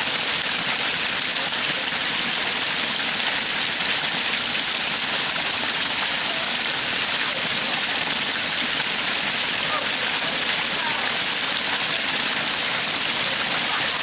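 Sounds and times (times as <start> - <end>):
water pouring over stones: 0.0 - 14.0.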